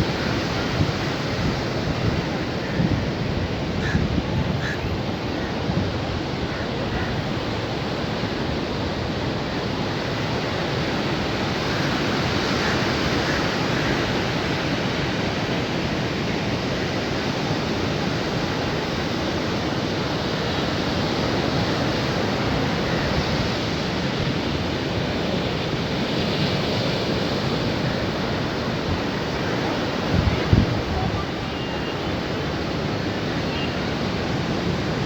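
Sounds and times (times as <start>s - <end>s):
sea surf washing: 0.0s - 35.0s.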